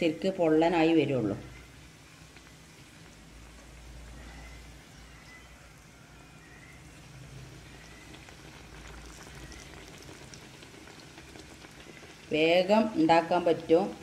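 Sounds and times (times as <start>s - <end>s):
hot oil sizzling and crackling: 0.0s - 14.0s.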